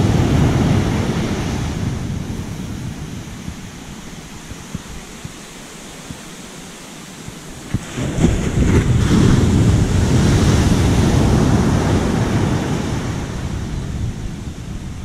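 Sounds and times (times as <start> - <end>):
sea waves surging on beach: 0.0 - 15.0
wind buffeting microphone: 0.0 - 15.0.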